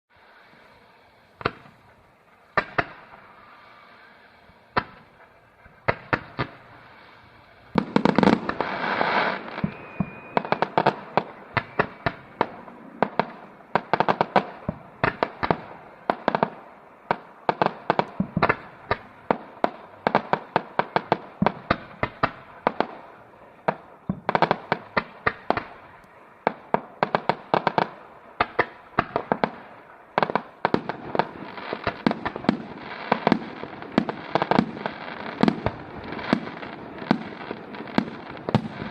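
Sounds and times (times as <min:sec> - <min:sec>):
fireworks bangs and crackles: 0:00.2 - 0:38.9
rushing firework burst: 0:00.2 - 0:38.9.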